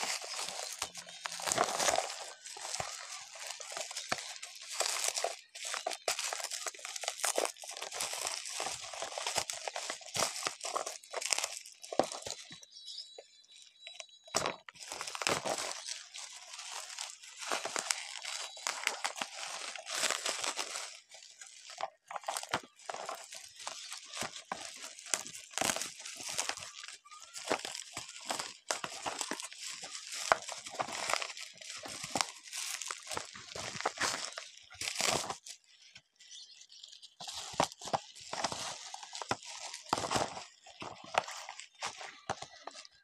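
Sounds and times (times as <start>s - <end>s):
bubble wrap and plastic crinkling: 0.0s - 12.7s, 13.6s - 43.0s.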